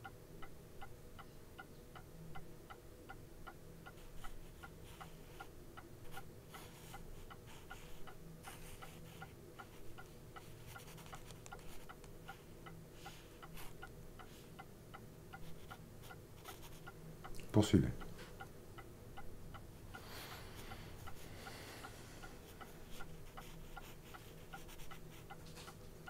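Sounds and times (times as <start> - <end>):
clock ticking: 0.0 - 5.1, 5.8 - 26.0.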